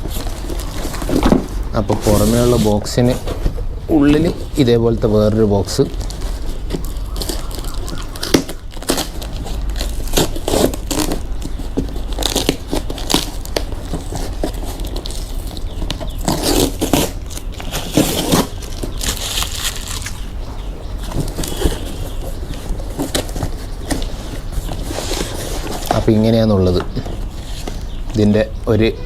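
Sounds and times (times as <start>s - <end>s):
cardboard box tearing and crinkling: 0.0s - 3.6s, 5.8s - 20.3s, 21.0s - 26.4s.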